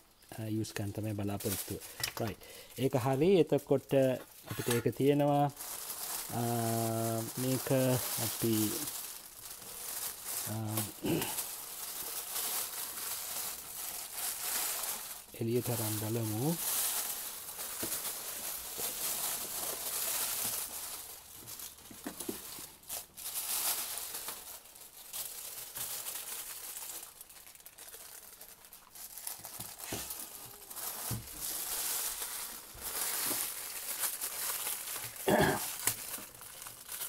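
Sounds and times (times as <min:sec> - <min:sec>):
plastic bag crinkling: 0:00.4 - 0:37.0.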